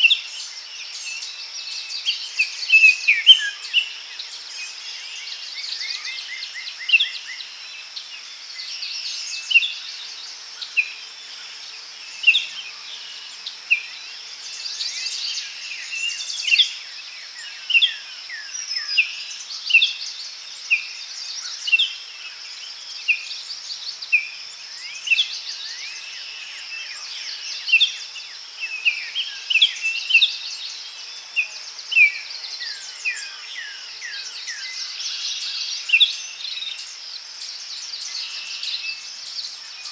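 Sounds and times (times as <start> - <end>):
birds calling and singing: 0.0 - 39.9
insect drone: 0.0 - 39.9.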